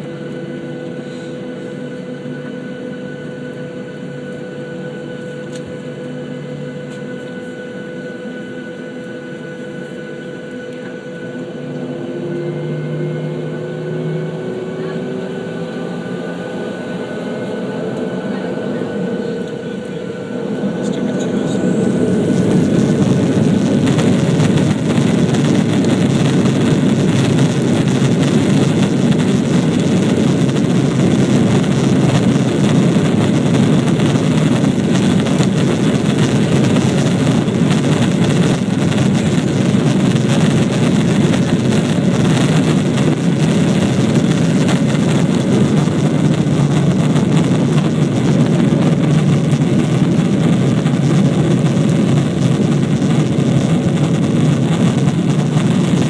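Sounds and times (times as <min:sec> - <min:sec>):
jet engines roaring in cabin: 0:00.0 - 0:56.0.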